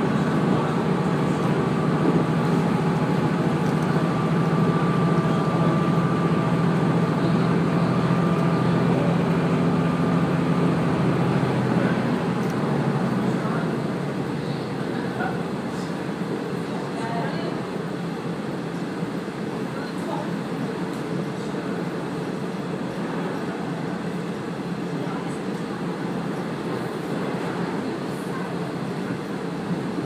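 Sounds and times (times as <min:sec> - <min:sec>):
diesel railcar engine hum: 0:00.0 - 0:30.0.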